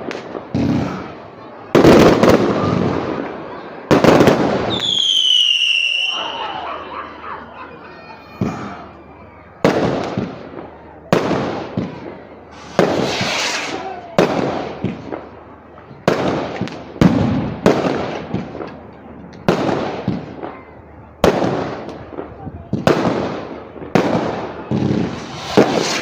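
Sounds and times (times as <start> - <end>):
fireworks bangs with crackle: 0.0 - 6.6, 8.2 - 26.0.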